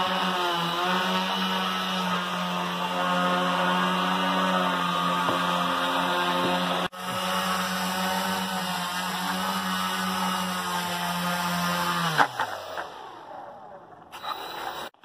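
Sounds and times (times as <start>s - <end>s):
drone motors and propellers: 0.0s - 15.0s.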